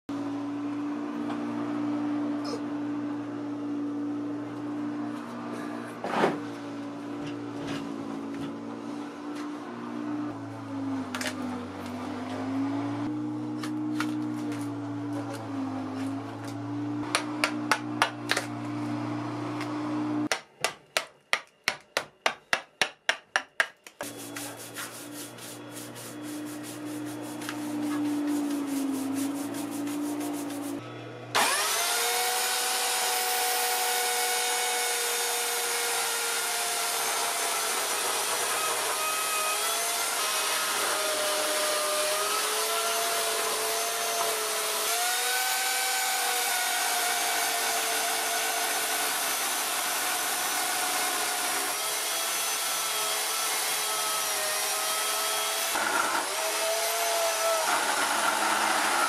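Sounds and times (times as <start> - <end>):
electric power tool whine: 0.1 - 20.3, 24.0 - 59.0.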